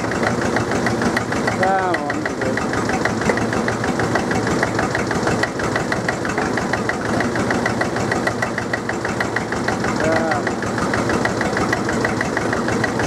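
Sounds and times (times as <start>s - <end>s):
diesel engine knocking: 0.0s - 13.0s.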